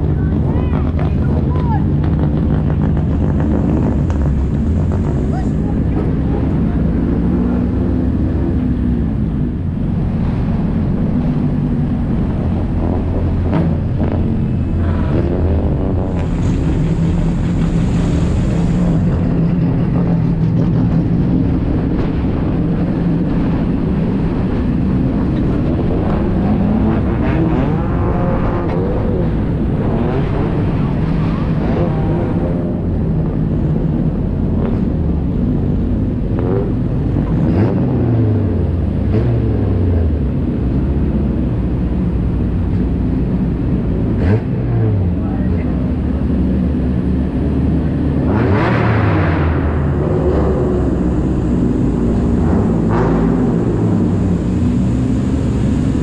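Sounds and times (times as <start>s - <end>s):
car engine low drone: 0.0s - 56.0s.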